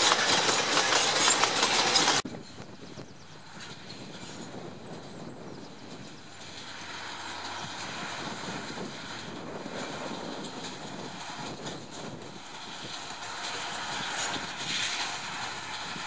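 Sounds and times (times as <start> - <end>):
diesel locomotive running: 0.0 - 16.0.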